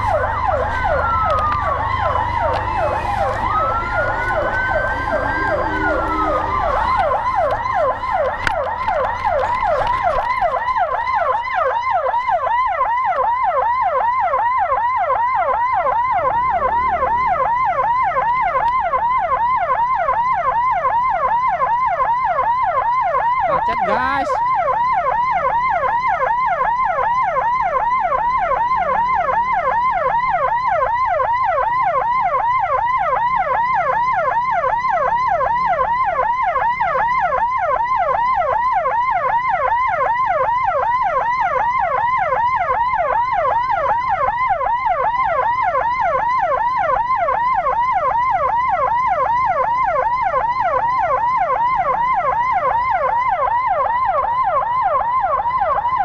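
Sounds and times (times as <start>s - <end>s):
electronic siren yelping: 0.0s - 56.0s
low road rumble: 0.0s - 56.0s.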